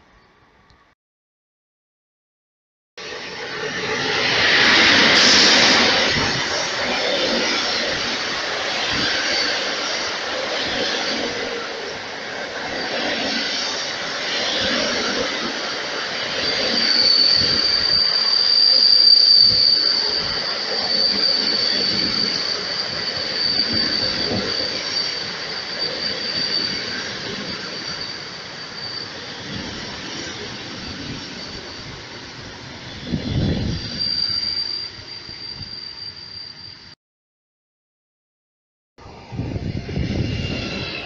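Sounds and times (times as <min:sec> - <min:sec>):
high squeal from train wheels: 0:03.0 - 0:37.0, 0:39.0 - 0:41.0
train coaches rolling past: 0:03.0 - 0:37.0, 0:39.0 - 0:41.0.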